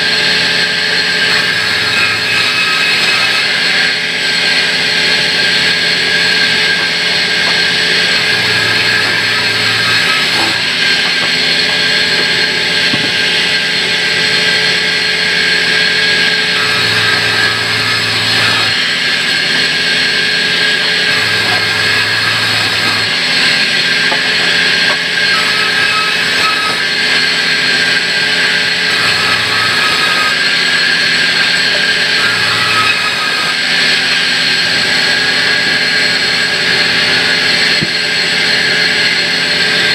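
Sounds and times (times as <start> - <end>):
band sawmill high tone: 0.0 - 39.9.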